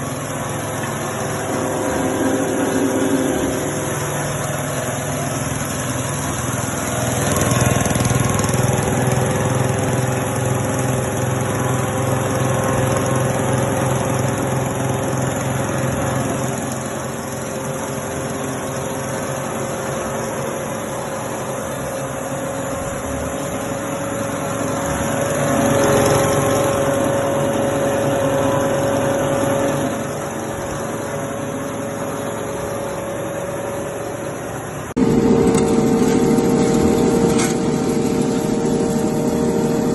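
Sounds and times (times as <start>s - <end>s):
rice husk machine running: 0.0s - 39.9s.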